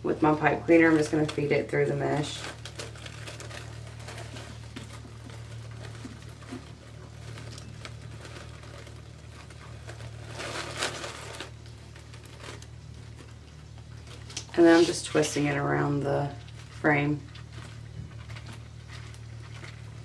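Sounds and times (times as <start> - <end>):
mesh and ribbon rustling: 0.0 - 20.0
steady low hum: 0.0 - 20.0.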